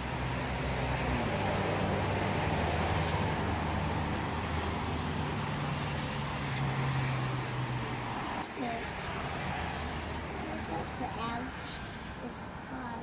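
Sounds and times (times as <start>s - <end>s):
constant noise bed: 0.0s - 13.0s.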